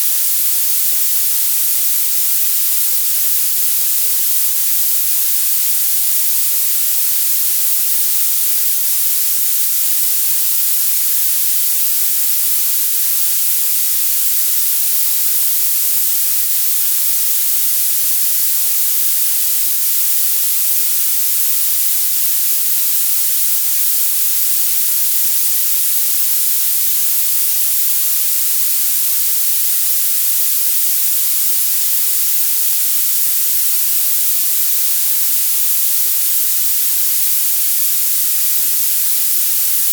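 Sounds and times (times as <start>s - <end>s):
bright violet noise hiss: 0.0s - 39.9s.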